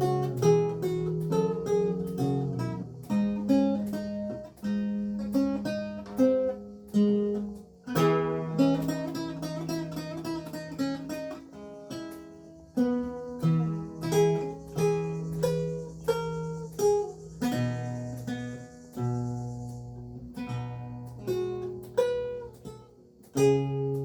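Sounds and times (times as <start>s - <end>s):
lute chords strummed: 0.0s - 24.0s
lute plucked melody: 0.0s - 24.0s.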